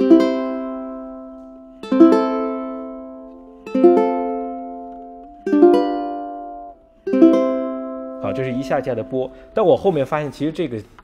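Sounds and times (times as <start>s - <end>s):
ukulele chords picked: 0.0s - 10.1s.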